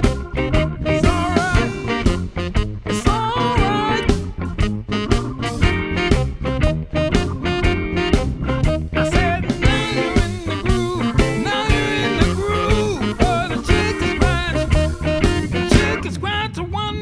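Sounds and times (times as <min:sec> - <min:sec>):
blues band playing: 0:00.0 - 0:16.5
bending lead guitar line: 0:00.0 - 0:16.9.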